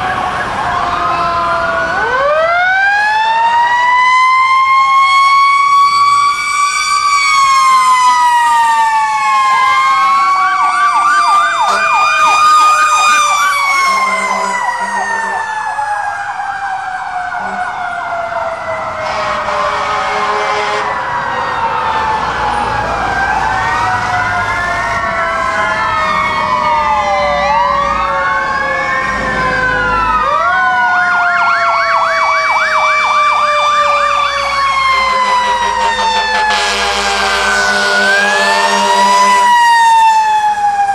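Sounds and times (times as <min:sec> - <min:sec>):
fast yelping siren sweeps: 0:00.0 - 0:40.9
fire truck sirens wailing: 0:00.0 - 0:40.9.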